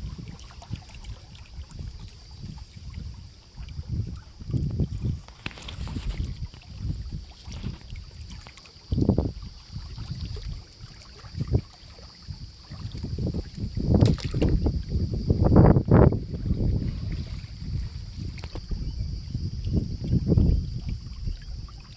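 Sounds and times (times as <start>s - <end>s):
steady high-pitched hiss: 0.0s - 21.9s
wind buffeting microphone: 0.0s - 21.9s.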